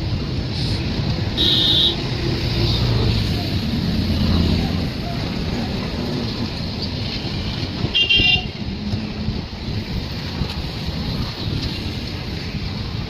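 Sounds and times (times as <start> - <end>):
moving train running: 0.0 - 13.0.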